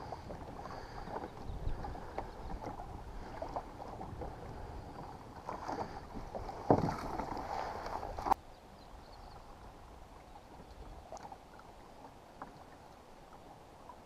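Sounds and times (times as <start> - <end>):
waves lapping against kayak hull: 0.0 - 14.0.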